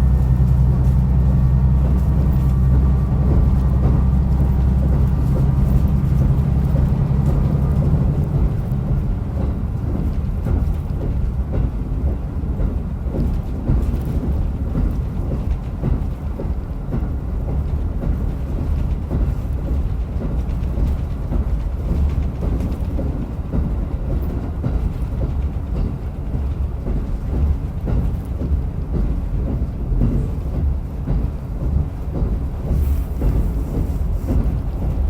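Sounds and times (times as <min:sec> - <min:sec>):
railcar engine and wheels rumbling: 0:00.0 - 0:35.0.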